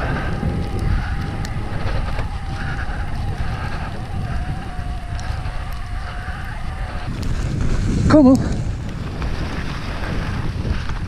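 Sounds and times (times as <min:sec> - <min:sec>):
electric bike motor whining: 0:00.0 - 0:09.2
wind rumble on microphone: 0:00.0 - 0:11.0.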